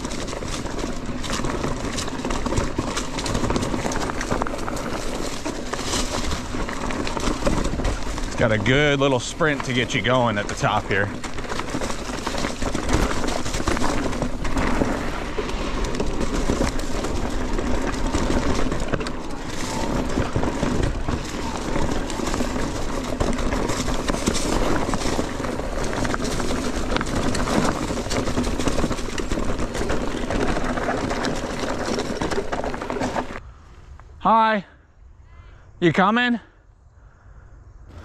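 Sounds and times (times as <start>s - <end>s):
bike rattling over bumps: 0.0s - 33.5s
bike tyres rumbling on dirt: 0.0s - 33.8s.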